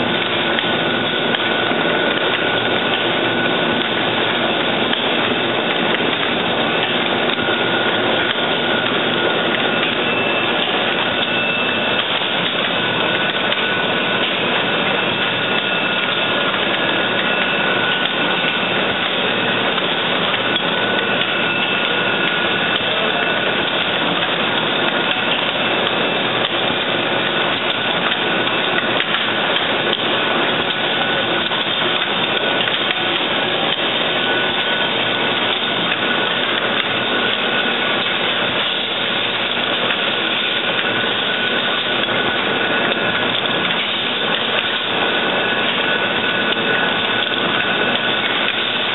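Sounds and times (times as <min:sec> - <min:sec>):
machinery whirring: 0:00.0 - 0:48.9.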